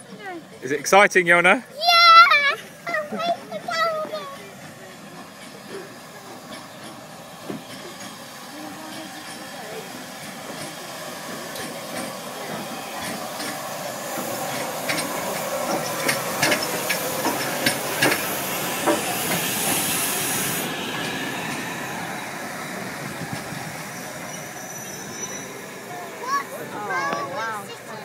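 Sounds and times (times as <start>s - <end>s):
locomotive venting steam hiss: 0.0s - 28.0s
steady train noise: 0.0s - 28.0s.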